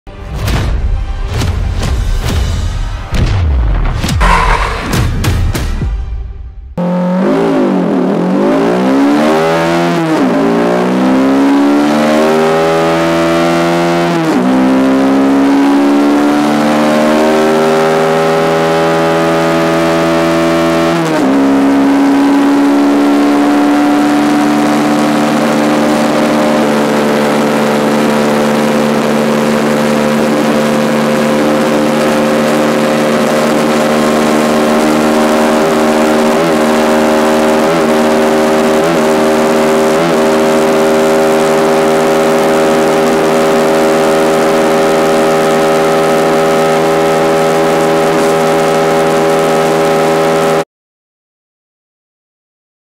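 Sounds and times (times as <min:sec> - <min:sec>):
motorcycle engine accelerating: 0:03.8 - 0:05.4, 0:06.8 - 0:50.6.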